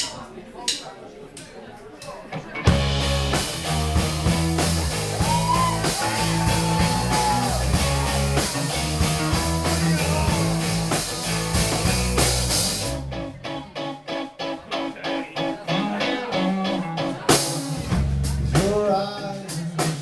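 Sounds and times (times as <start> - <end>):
live rock band playing: 2.5 - 20.0
guitar picking a repeated pattern: 2.7 - 20.0.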